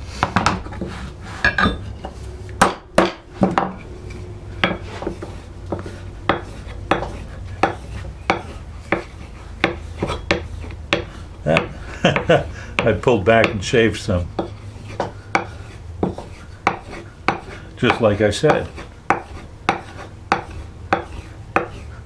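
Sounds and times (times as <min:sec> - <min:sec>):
wood scraping on steel: 0:00.0 - 0:22.0.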